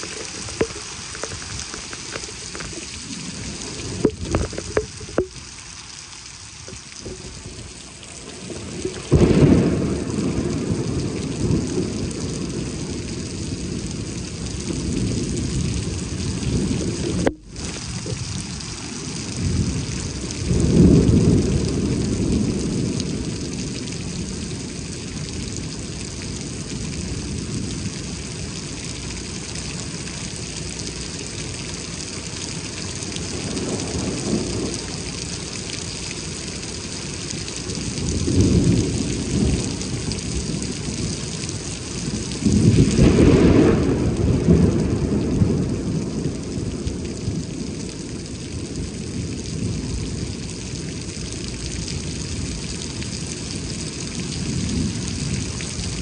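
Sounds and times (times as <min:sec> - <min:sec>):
heavy rain pouring: 0:00.0 - 0:56.0
thunder rumbling: 0:06.8 - 0:30.7, 0:31.3 - 0:56.0.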